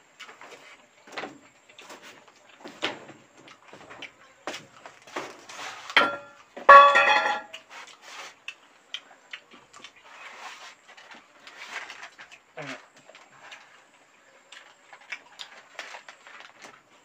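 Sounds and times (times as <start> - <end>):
people eating with hands: 0.0 - 6.9, 7.5 - 17.0.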